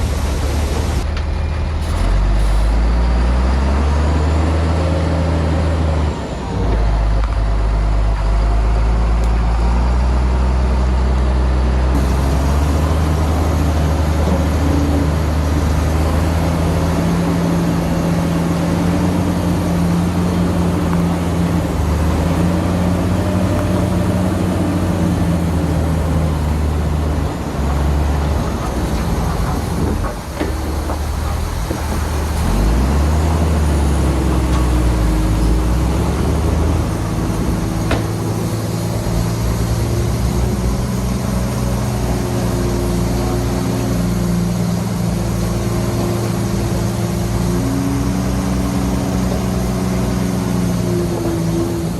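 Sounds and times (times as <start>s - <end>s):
heavy diesel machinery running: 0.0s - 51.9s.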